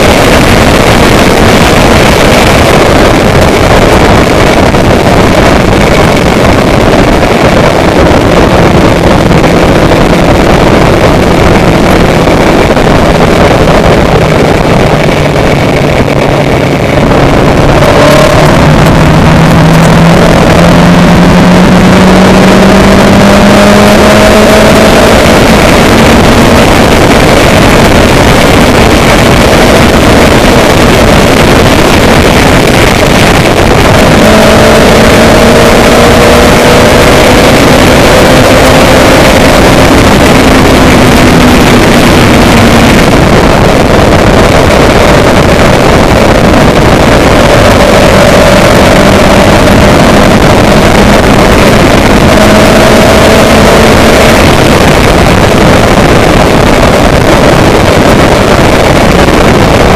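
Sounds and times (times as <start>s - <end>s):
engine humming: 0.0s - 58.5s
loud steady rushing noise: 0.0s - 59.9s.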